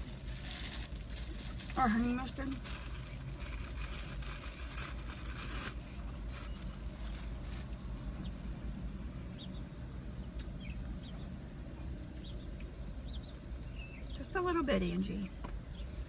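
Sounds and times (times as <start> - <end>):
low hum inside car: 0.0 - 16.0.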